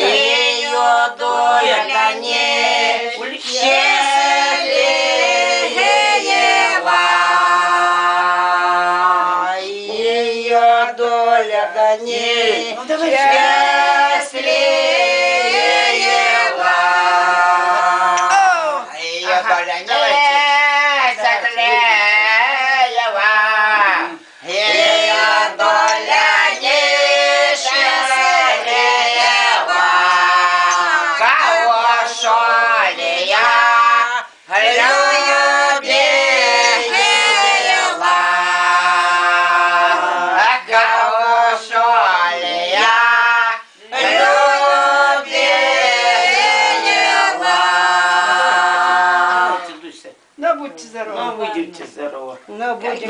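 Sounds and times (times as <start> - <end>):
women singing a cappella: 0.0 - 50.3.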